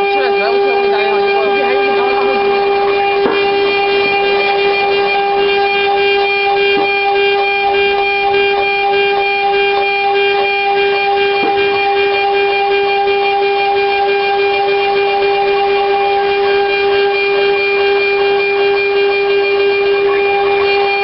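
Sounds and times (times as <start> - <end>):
cnc router spindle whine: 0.0 - 21.0.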